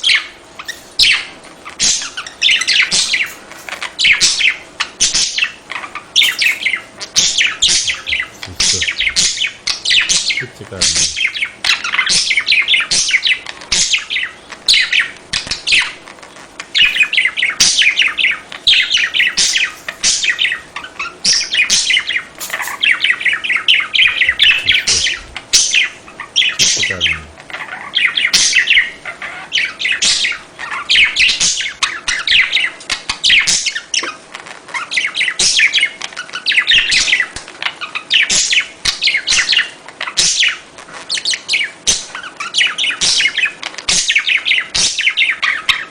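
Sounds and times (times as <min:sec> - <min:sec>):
budgerigars chattering: 0:00.0 - 0:34.1, 0:34.8 - 0:45.9.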